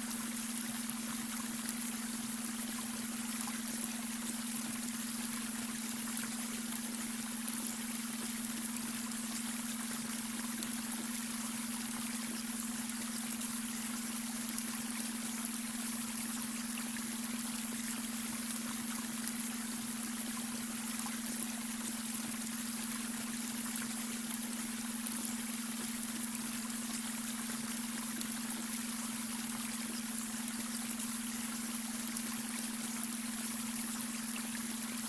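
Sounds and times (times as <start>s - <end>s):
brook water running: 0.0s - 35.0s
steady low hum tone: 0.0s - 35.0s.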